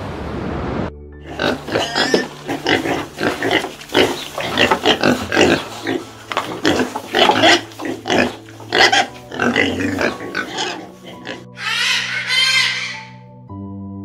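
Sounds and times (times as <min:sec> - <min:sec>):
piglets grunting and squealing: 0:01.3 - 0:13.2.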